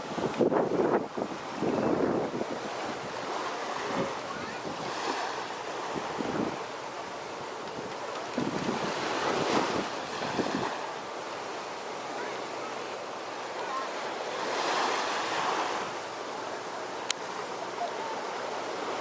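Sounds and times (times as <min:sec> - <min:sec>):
small waves washing on beach: 0:00.0 - 0:19.0
surf swells: 0:00.0 - 0:19.0.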